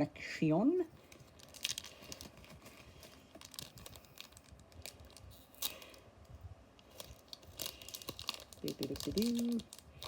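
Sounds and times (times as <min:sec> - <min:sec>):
foil wrapper crinkling: 0:01.0 - 0:06.1, 0:06.8 - 0:10.0.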